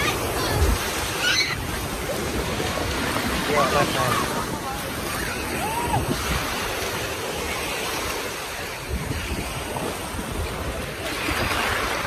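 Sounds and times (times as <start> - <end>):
small waves breaking on beach: 0.0 - 12.0
wind rumble on microphone: 0.0 - 12.0.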